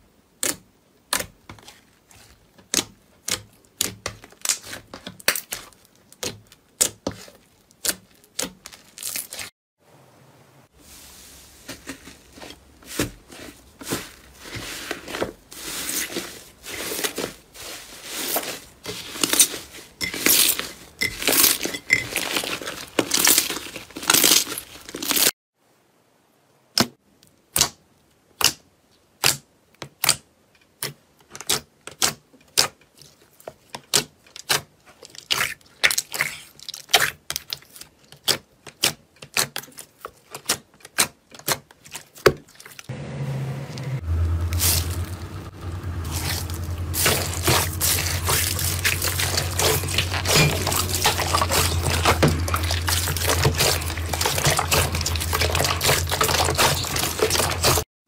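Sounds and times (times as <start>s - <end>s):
crackly slime squishing: 0.3s - 9.5s, 11.8s - 25.3s, 27.4s - 42.9s, 46.0s - 57.8s.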